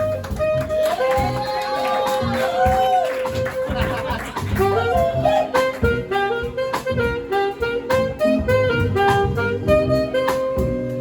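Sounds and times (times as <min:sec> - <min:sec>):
bass: 0:00.0 - 0:11.0
drums: 0:00.0 - 0:11.0
saxophone playing: 0:00.0 - 0:11.0.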